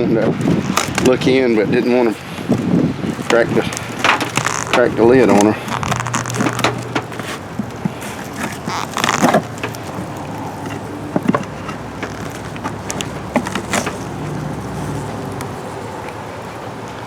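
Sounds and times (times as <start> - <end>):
low wind rumble: 0.0 - 17.0
wooden lid scraping: 0.3 - 17.0
knocks and clicks on wooden hive: 0.4 - 16.2.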